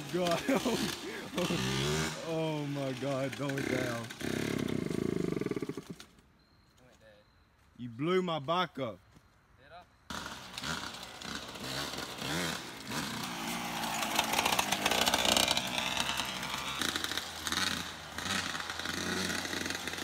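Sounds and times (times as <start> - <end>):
dirt bike engine revving: 0.0 - 6.2, 10.1 - 20.0.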